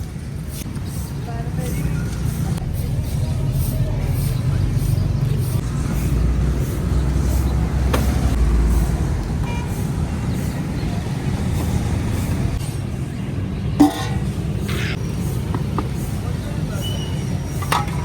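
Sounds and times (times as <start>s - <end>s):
passing vehicles rumbling: 0.0s - 18.0s.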